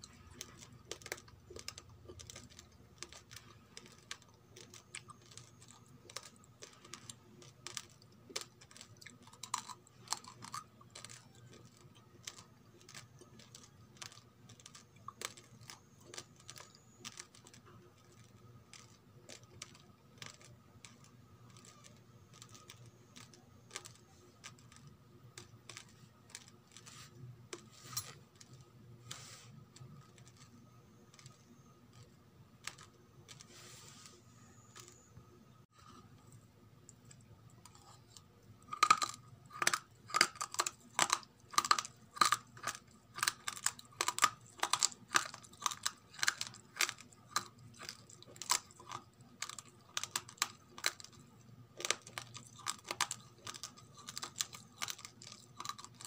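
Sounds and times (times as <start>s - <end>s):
raw rice crunched while chewing: 0.0s - 35.0s, 36.9s - 56.0s.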